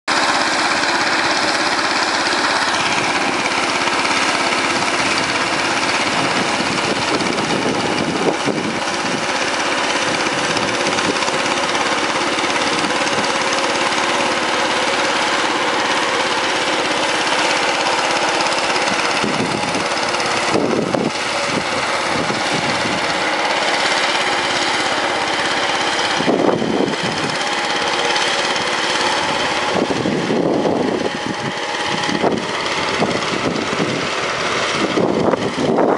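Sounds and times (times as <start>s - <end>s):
tiller engine running: 0.0s - 35.9s.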